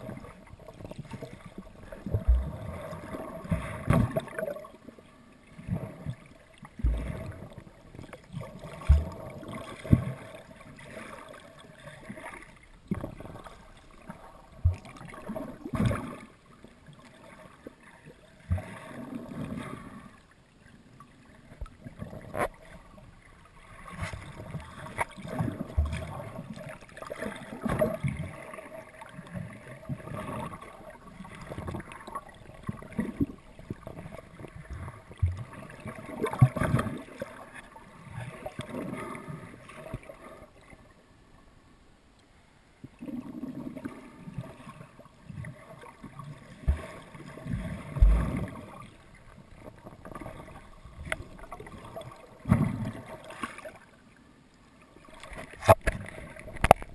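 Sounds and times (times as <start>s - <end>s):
muffled underwater water sloshing: 0.0s - 56.9s.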